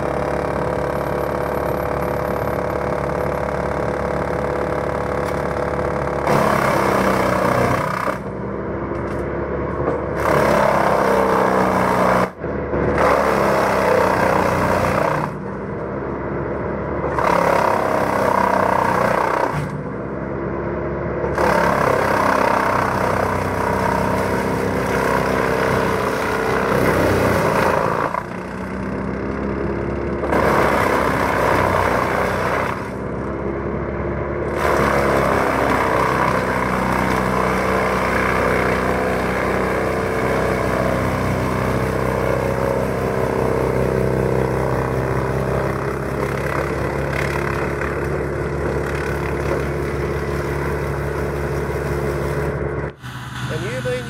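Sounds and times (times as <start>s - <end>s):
woodchipper chipping branches: 0.0s - 15.7s, 17.0s - 20.0s, 21.2s - 33.4s, 34.4s - 52.8s
woodchipper engine running: 0.0s - 54.0s.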